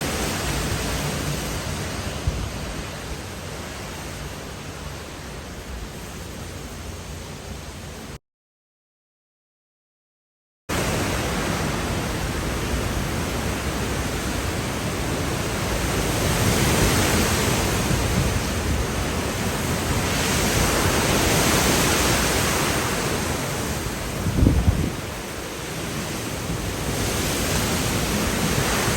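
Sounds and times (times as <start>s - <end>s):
strong wind gusts: 0.0s - 8.2s, 10.7s - 28.9s.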